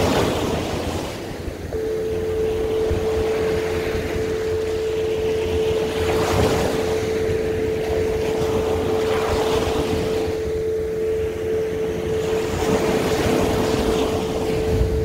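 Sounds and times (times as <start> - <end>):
waves washing up a beach: 0.0 - 15.0
steady hum: 1.3 - 15.0.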